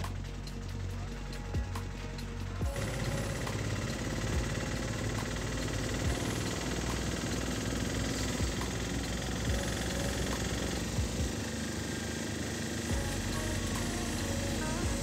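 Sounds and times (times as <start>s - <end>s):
auto-rickshaw engine running: 0.0s - 15.0s.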